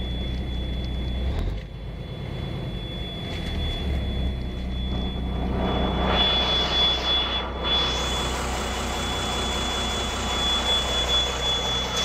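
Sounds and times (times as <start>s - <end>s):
diesel truck engine idling: 0.0s - 12.0s
thin high whine: 0.0s - 12.0s.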